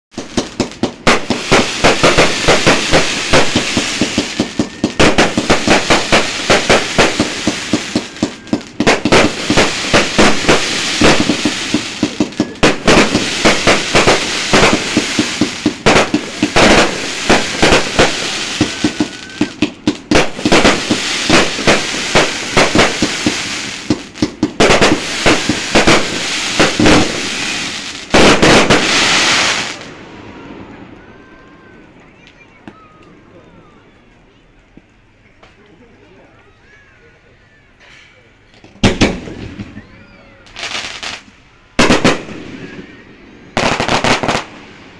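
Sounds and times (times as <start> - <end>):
fireworks bangs and crackles: 0.1 - 33.2, 38.6 - 44.9.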